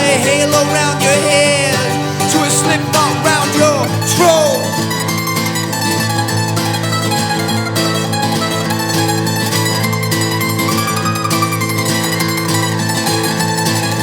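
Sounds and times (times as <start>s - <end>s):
folk-rock instrumental music: 0.0s - 14.0s.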